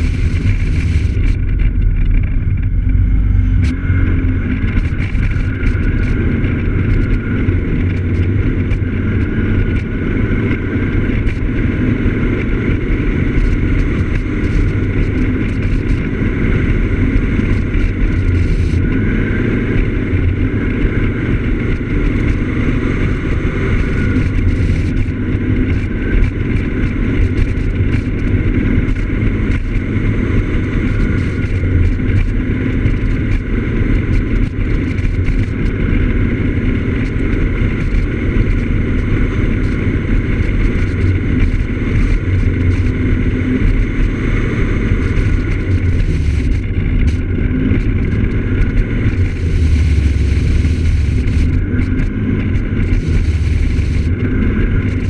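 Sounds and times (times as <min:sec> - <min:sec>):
scooter engine and wind noise: 0:00.0 - 0:55.0.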